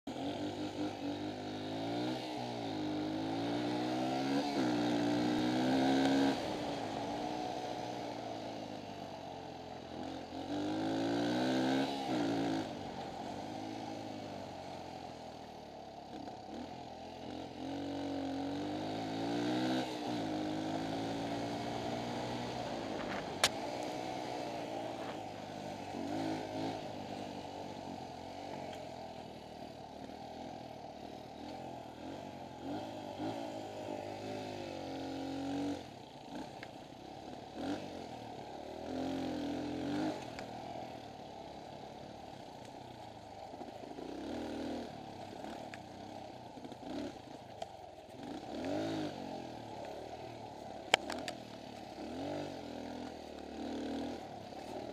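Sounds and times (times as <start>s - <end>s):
dirt bike engine revving: 0.1s - 54.9s.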